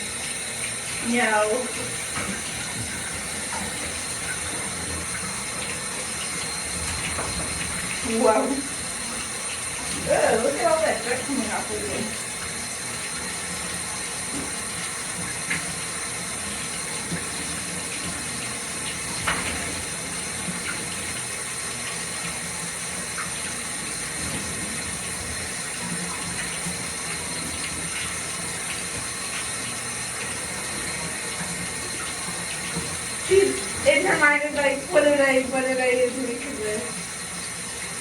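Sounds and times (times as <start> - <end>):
running water rinsing: 0.0 - 38.0.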